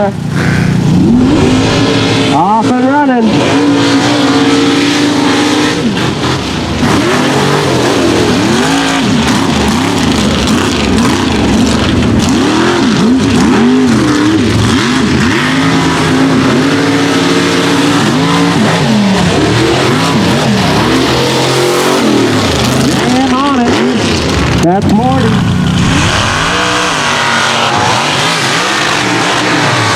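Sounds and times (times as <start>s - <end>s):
truck engine revving: 0.0s - 29.9s.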